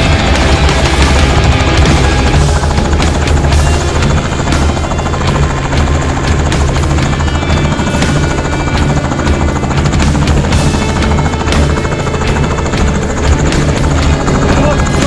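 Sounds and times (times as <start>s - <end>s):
background music: 0.0s - 15.0s
helicopter drone and chop: 0.0s - 15.0s.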